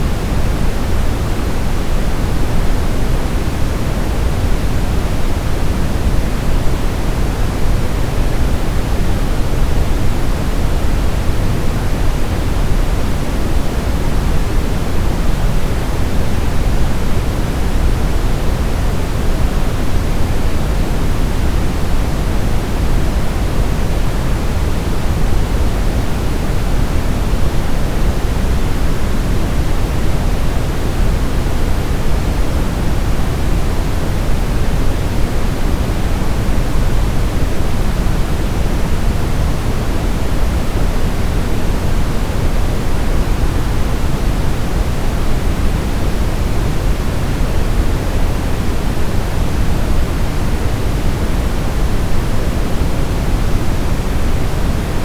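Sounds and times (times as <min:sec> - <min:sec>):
low white noise hiss: 0:00.0 - 0:55.0.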